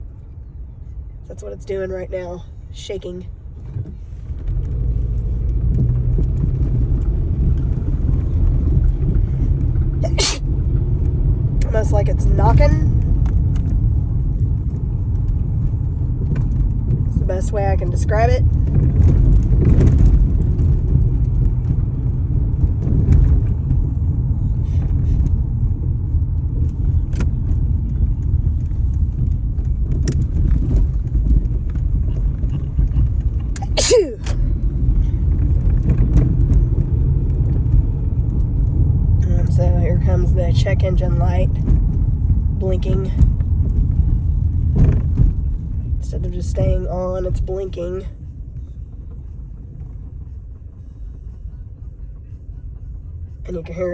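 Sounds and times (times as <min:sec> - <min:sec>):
car engine accelerating: 0:03.4 - 0:53.9.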